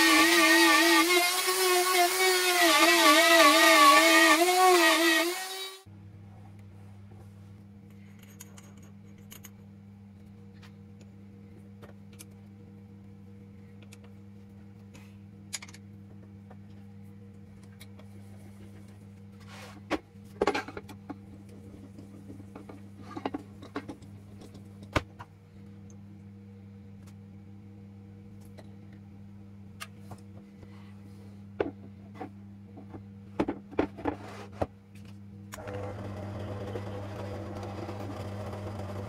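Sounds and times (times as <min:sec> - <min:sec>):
low electrical hum: 0:05.8 - 0:39.0.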